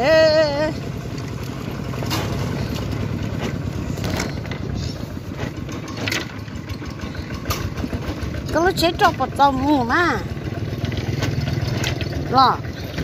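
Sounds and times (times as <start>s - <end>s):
walking tractor engine running: 0.0s - 13.0s.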